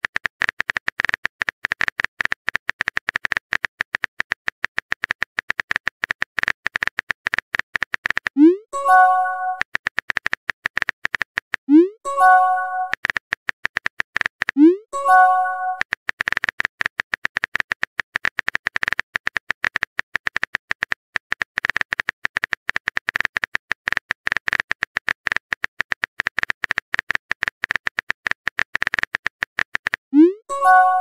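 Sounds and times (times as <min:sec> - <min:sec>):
rapid keyboard typing clicks: 0:00.0 - 0:31.0.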